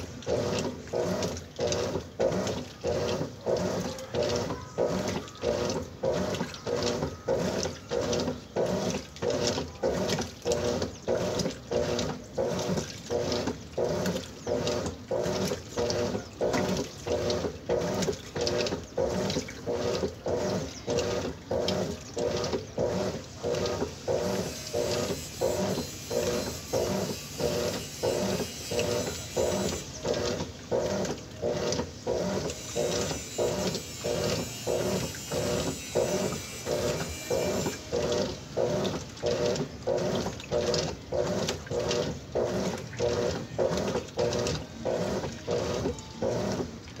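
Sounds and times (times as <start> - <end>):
washing machine churning clothes: 0.0 - 47.0.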